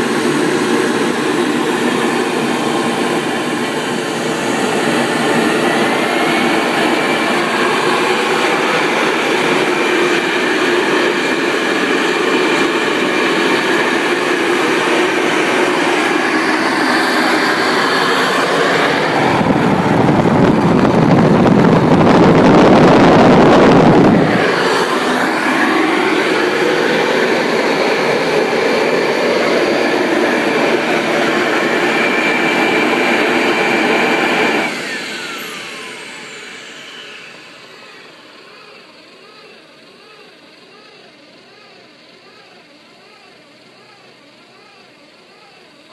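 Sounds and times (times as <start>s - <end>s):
jet engine roaring: 0.0s - 38.2s
high turbine whine: 0.0s - 45.9s.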